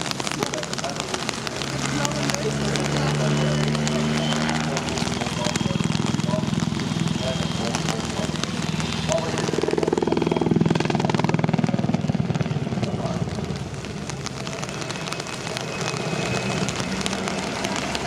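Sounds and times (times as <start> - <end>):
helicopter engine drone: 0.0 - 16.3
helicopter rotor blades chopping: 0.0 - 18.0.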